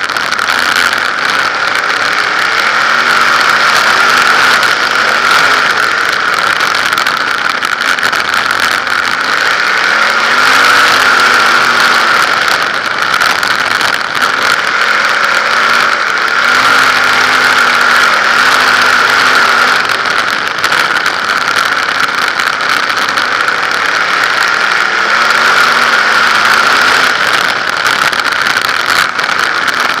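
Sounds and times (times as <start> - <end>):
loud steady hiss: 0.0 - 30.0
race car engine running: 0.0 - 30.0.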